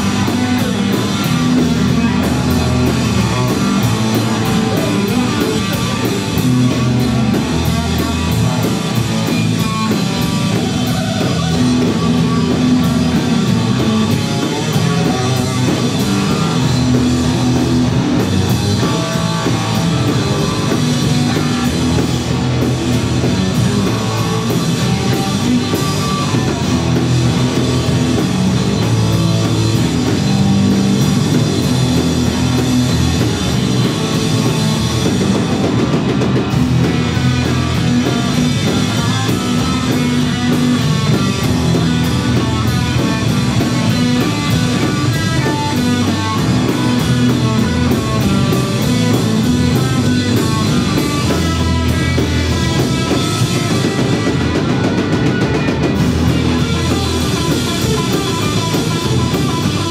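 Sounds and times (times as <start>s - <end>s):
drum kit with cymbal hits: 0.0s - 59.9s
electric guitars: 0.0s - 59.9s.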